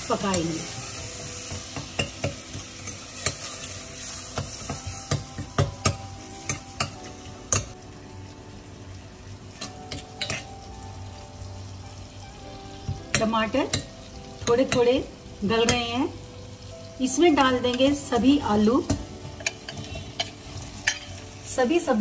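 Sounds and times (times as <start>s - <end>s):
tomatoes sizzling in oil: 0.0s - 22.0s.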